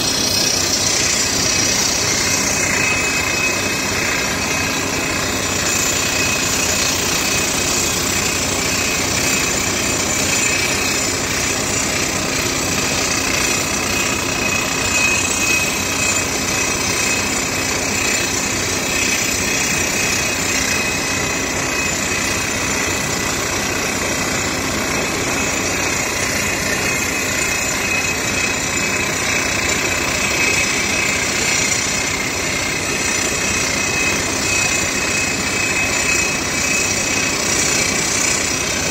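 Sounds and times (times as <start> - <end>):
drill rig engine: 0.0 - 38.9
rock drill hammering: 0.0 - 38.9.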